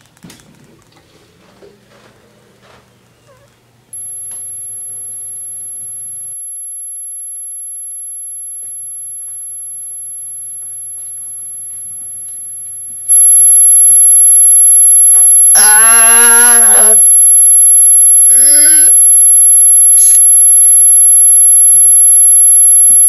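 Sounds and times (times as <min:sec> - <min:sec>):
high-pitched electronic tone: 0:04.0 - 0:23.0.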